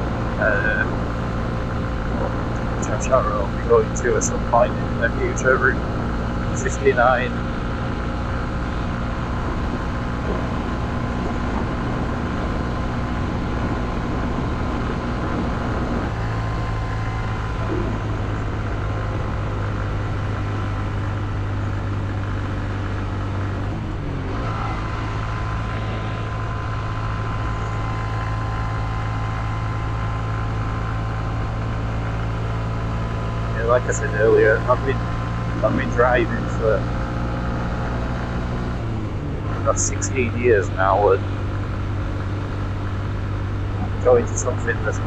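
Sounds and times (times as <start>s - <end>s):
motorcycle engine running: 0.0s - 45.0s
road and wind noise: 0.0s - 45.0s.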